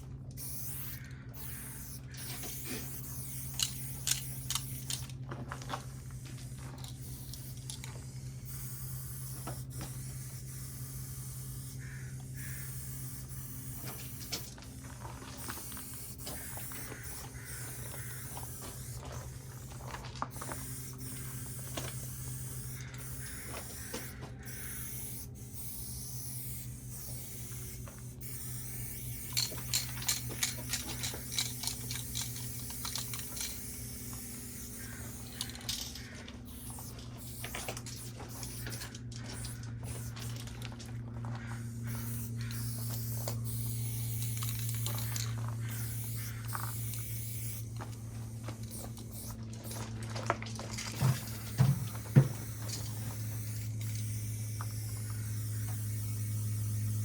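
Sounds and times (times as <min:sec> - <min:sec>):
spray paint cans hissing: 0:00.0 - 0:57.0
steady low hum: 0:00.0 - 0:57.0.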